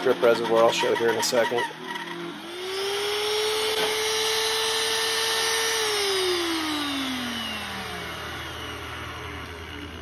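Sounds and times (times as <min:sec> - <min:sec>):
drill press motor whining: 0:00.0 - 0:10.0.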